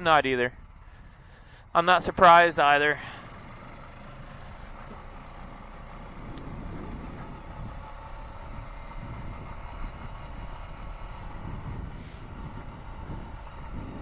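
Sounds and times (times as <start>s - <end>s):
engine running: 0.0s - 14.0s
road and wind noise: 0.0s - 14.0s.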